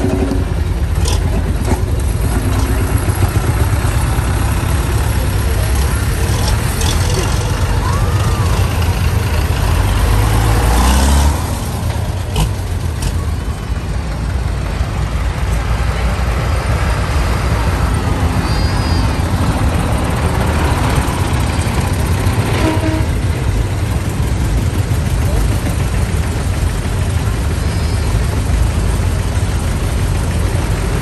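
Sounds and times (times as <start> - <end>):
tractor diesel engines rumbling: 0.0 - 31.0.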